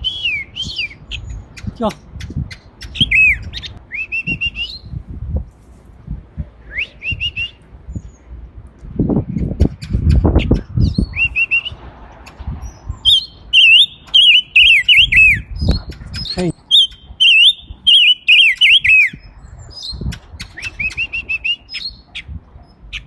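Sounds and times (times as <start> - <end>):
songbird whistling calls: 0.0 - 5.0, 6.6 - 8.3, 9.4 - 11.8, 12.6 - 22.3.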